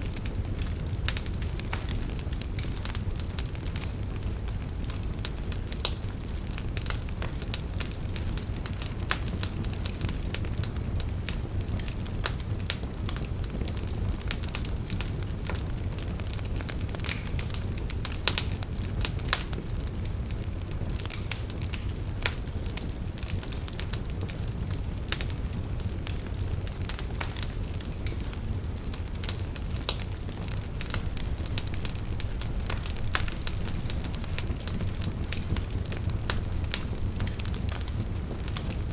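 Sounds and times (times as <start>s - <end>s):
bonfire crackling and popping: 0.0s - 38.9s
low rumble of flames: 0.0s - 38.9s.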